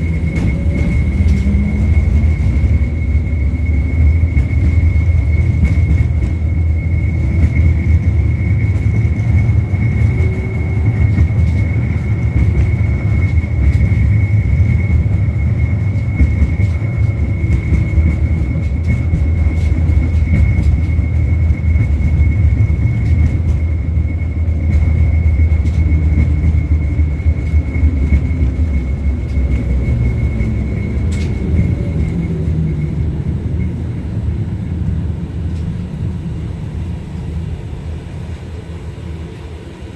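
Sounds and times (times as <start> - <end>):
tram wheels rumbling on rails: 0.0 - 39.9.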